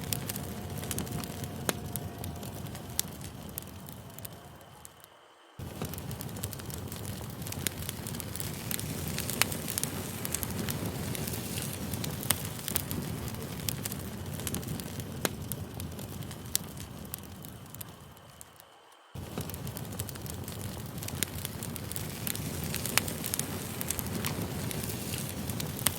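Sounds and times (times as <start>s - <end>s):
burning wood crackling and popping: 0.0s - 25.9s
campfire flames rushing: 0.0s - 25.9s.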